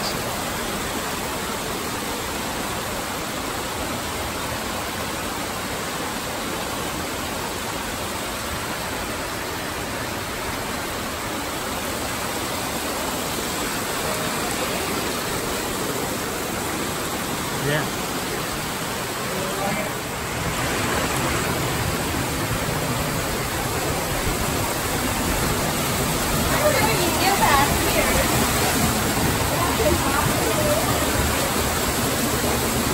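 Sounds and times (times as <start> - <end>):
stream cascading over rocks: 0.0 - 32.9
waterfall rushing: 0.0 - 32.9.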